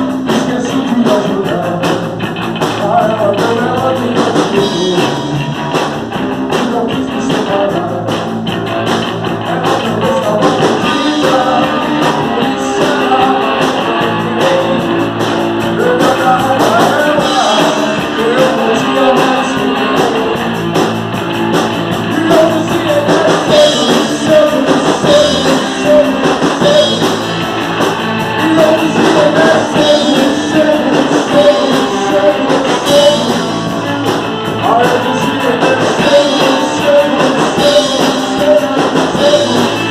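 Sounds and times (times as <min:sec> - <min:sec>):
person singing: 0:00.0 - 0:08.4, 0:09.2 - 0:20.8, 0:21.6 - 0:39.9
electric guitar: 0:00.0 - 0:39.9
rock band playing live: 0:00.0 - 0:39.9.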